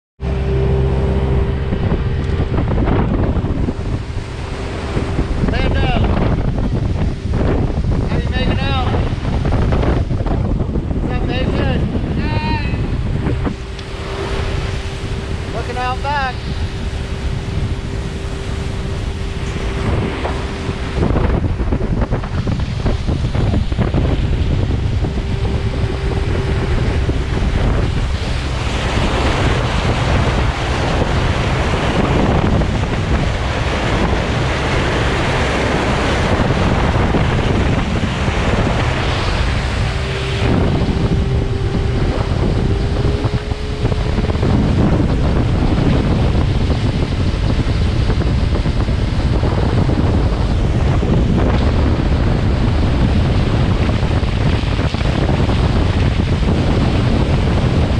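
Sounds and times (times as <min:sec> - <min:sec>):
boat wake rushing and splashing: 0:00.0 - 0:57.9
thin steady whine: 0:00.2 - 0:57.9
wind buffeting microphone: 0:00.2 - 0:57.9.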